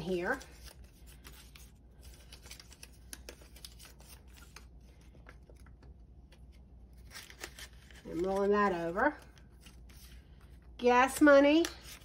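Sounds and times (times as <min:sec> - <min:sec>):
banknotes rustling: 0:00.0 - 0:12.0.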